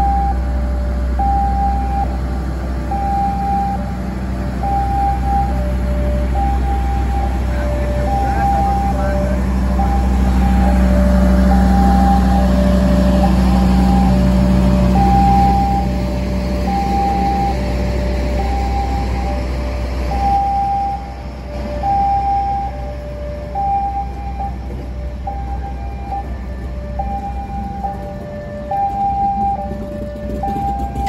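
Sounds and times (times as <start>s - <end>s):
two-tone warning alarm: 0.0s - 2.2s, 2.9s - 3.9s, 4.6s - 31.0s
locomotive engine drone: 0.0s - 31.0s.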